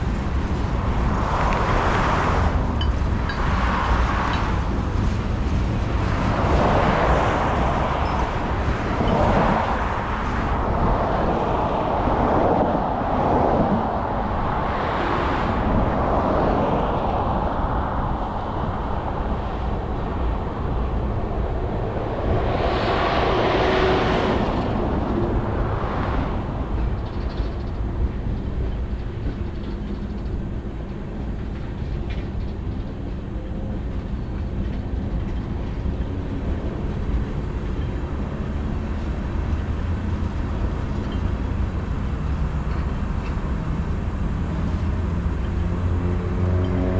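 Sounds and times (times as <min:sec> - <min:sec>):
freight train rumbling on rails: 0:00.0 - 0:46.9.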